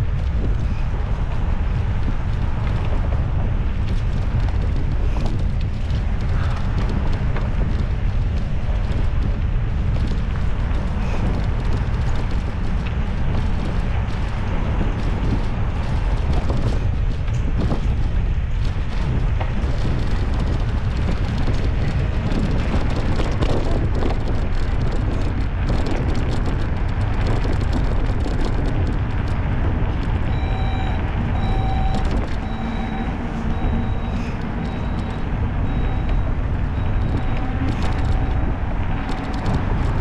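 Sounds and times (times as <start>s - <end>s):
wind rushing over microphone: 0.0s - 40.0s.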